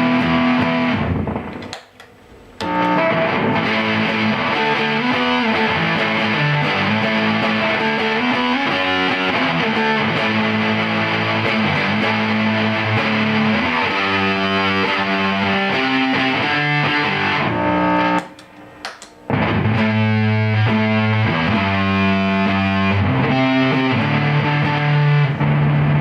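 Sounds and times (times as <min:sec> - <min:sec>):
distorted electric guitar chords: 0:00.0 - 0:26.0.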